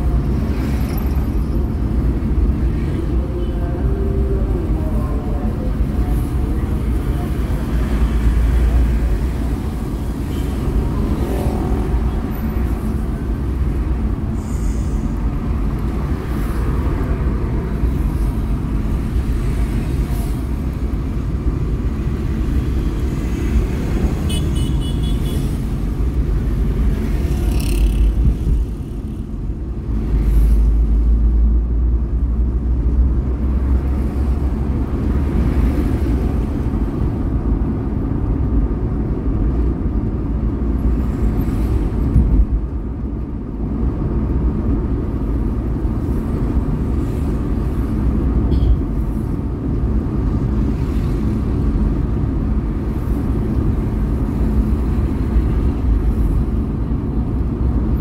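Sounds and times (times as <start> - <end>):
car engine and road noise: 0.0 - 58.0
surrounding traffic: 0.0 - 58.0.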